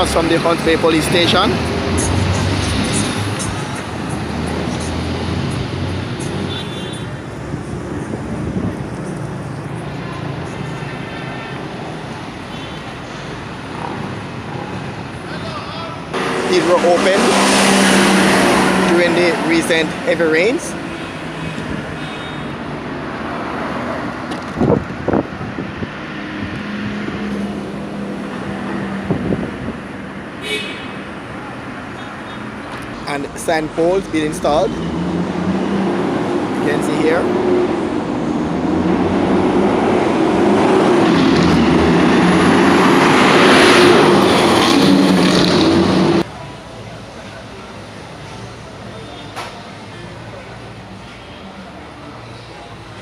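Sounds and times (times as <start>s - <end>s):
passing vehicles: 0.0s - 53.0s.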